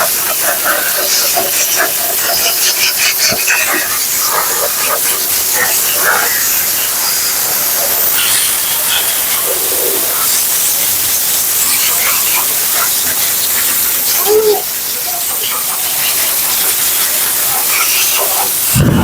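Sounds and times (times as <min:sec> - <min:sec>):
pet dryer blowing: 0:00.0 - 0:19.0.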